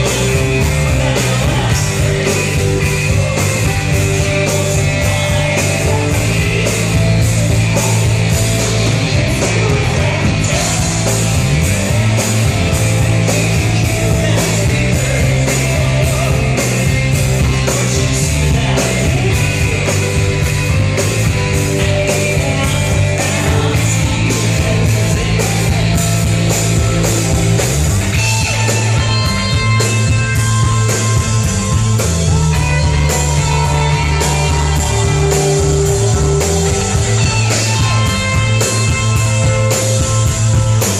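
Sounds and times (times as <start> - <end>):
bass guitar: 0.0 - 40.9
drums keeping a steady beat: 0.0 - 40.9
electric guitar: 0.0 - 40.9.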